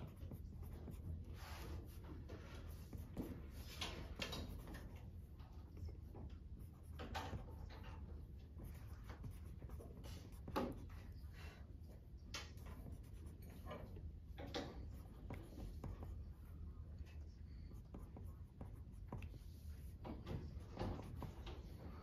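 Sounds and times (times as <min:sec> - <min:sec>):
low steady hum: 0:00.0 - 0:22.0
pencil scratching on paper: 0:00.0 - 0:22.0.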